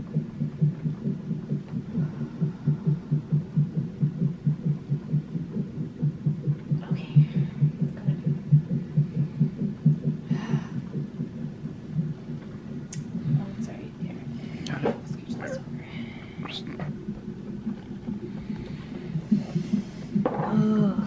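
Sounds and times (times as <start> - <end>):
fetal heartbeat whooshing pulse: 0.0 - 21.0.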